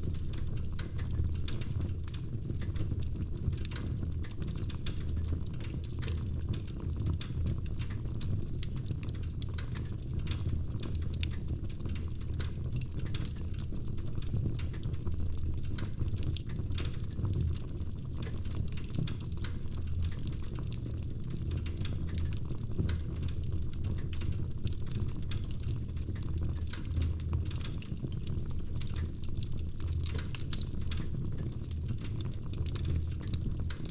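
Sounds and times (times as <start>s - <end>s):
fire snaps and pops: 0.0s - 33.9s
low rumble of burning: 0.0s - 33.9s.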